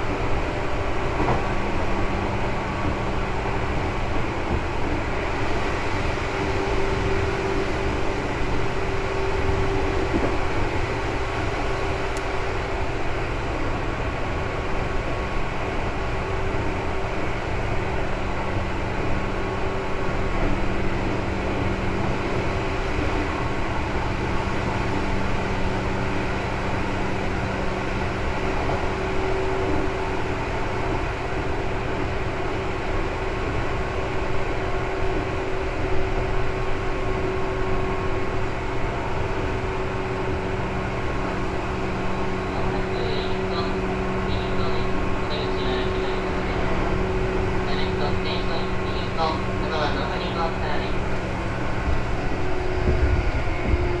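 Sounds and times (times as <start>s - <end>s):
constant low hum: 0.0s - 54.0s
train wheels rumbling: 0.0s - 54.0s.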